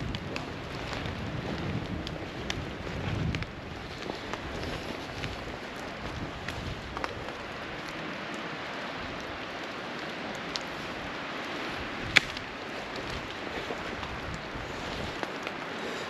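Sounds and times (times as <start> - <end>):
raindrops tapping: 0.0 - 16.0
steady rain in woodland: 0.0 - 16.0.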